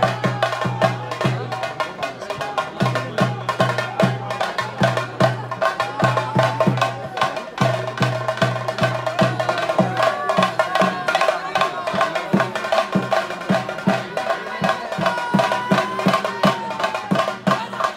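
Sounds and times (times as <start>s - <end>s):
drums beating steady rhythm: 0.0s - 17.9s.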